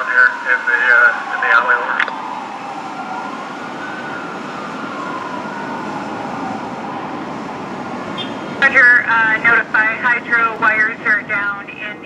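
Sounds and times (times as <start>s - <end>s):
engine and road noise: 0.0s - 12.0s
fire engine siren wailing: 0.0s - 12.0s.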